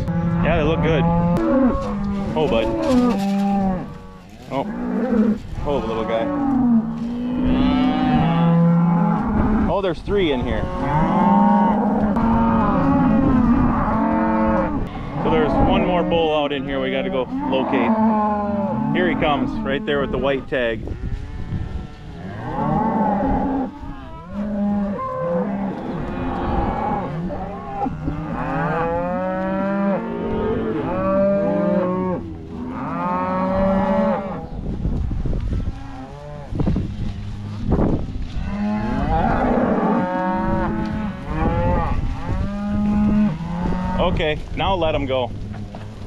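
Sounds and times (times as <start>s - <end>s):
cattle mooing: 0.0s - 34.5s, 38.3s - 45.9s.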